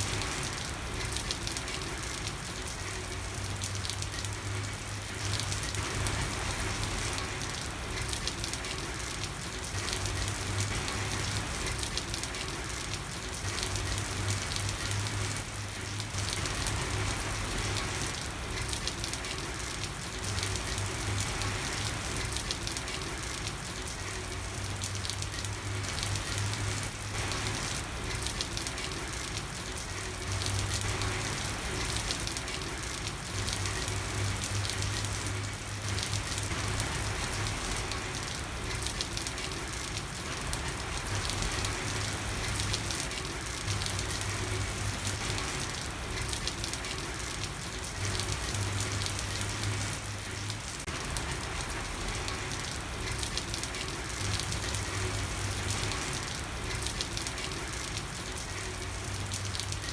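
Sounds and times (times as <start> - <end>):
heavy rain on a street: 0.0 - 59.9.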